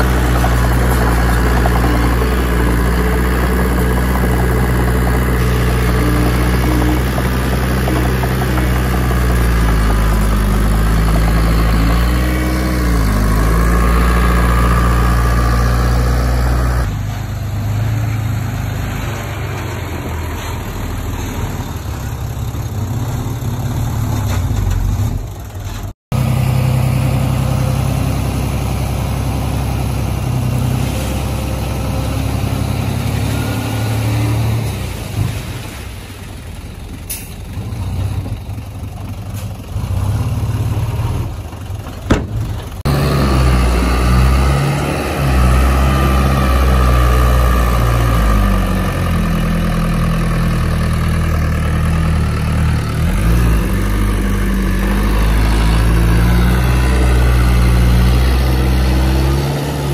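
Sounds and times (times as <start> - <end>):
heavy diesel machinery engine: 0.0 - 59.9.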